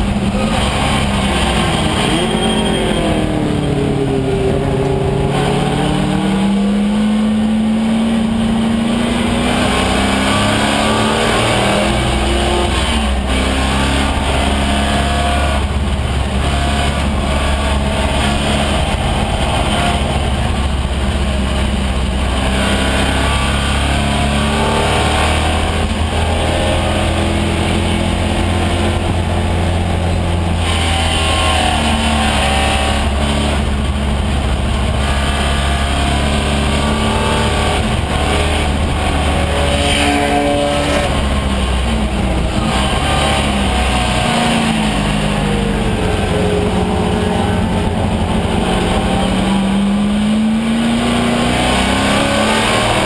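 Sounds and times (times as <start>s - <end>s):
race car engine running hard: 0.0s - 53.0s.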